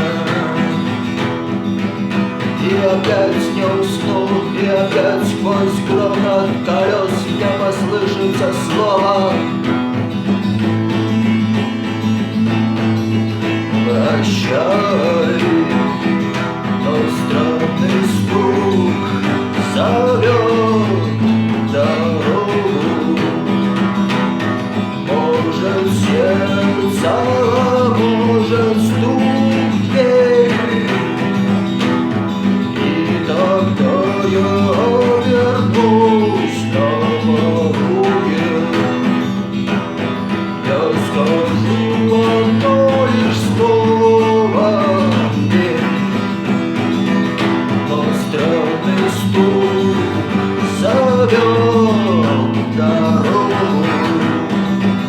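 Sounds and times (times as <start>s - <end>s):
bending guitar melody: 0.0s - 55.0s
guitar strumming: 0.0s - 55.0s.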